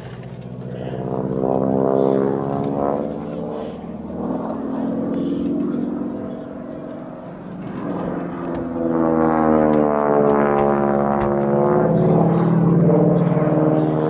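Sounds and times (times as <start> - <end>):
propeller plane engine rasping: 0.0 - 14.0.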